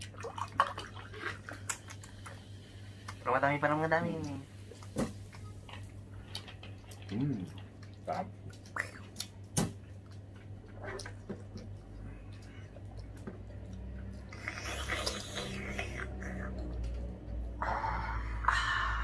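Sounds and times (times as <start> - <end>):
people chewing watermelon: 0.0 - 19.0
low hum: 1.2 - 19.0.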